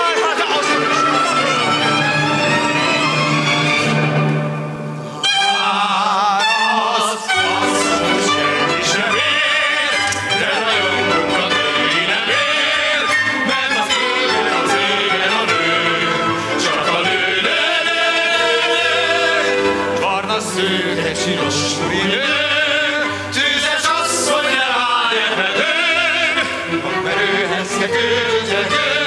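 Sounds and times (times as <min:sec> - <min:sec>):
orchestral accompaniment: 0:00.0 - 0:29.0
man singing with vibrato: 0:05.1 - 0:29.0.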